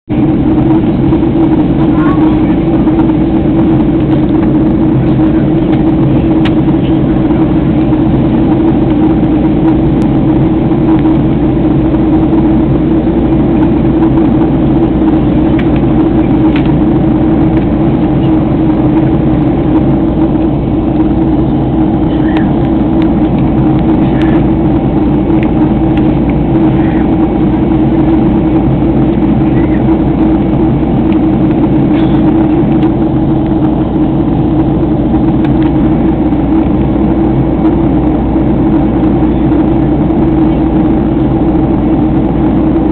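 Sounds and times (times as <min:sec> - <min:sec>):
airplane cabin engine drone: 0:00.1 - 0:42.9.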